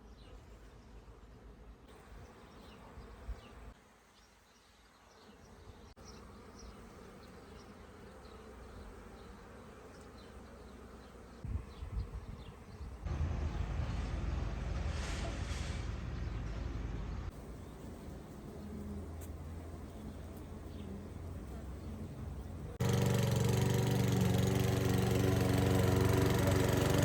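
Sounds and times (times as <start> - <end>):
honeybees buzzing: 0.3 - 14.8, 17.3 - 27.0.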